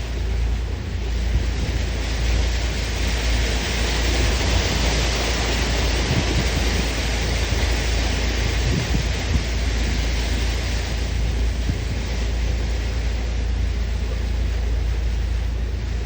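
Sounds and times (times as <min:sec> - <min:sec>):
deep engine rumble: 0:00.0 - 0:16.0
rushing wind and water: 0:00.0 - 0:16.0
wind buffeting microphone: 0:00.0 - 0:16.0.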